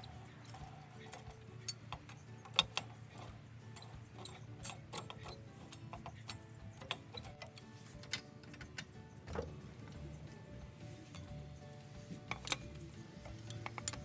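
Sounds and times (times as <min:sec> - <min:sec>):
sharp clicks and clinks: 0:00.0 - 0:10.1, 0:12.2 - 0:14.0
faint background music: 0:00.0 - 0:14.0.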